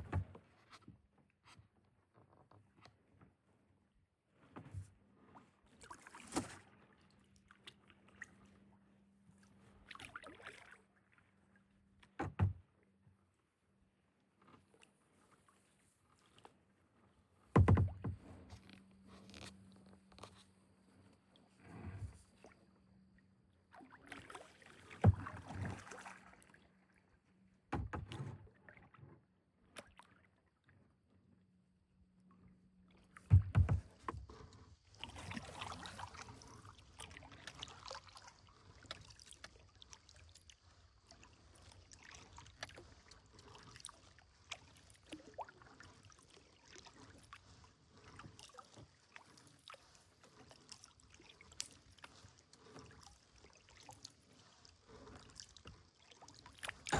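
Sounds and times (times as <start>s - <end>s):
paddle strokes splashing water: 4.3s - 12.7s, 13.8s - 30.8s, 32.9s - 56.9s.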